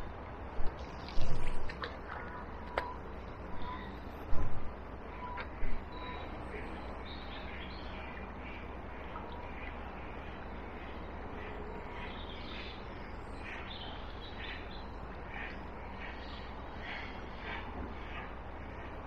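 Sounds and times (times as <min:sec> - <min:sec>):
shallow river flowing: 0:00.0 - 0:19.0
birds calling: 0:00.7 - 0:19.0.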